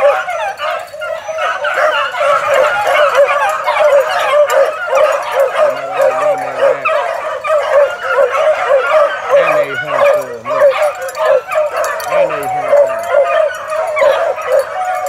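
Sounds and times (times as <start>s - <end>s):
puppies baying and yipping: 0.0s - 15.0s.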